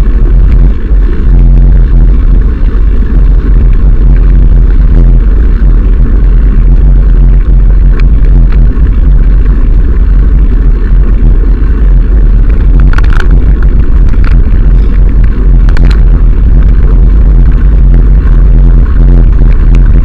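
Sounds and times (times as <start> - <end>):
bicycle rattling over bumps: 0.0 - 20.0
wind buffeting microphone: 0.0 - 20.0.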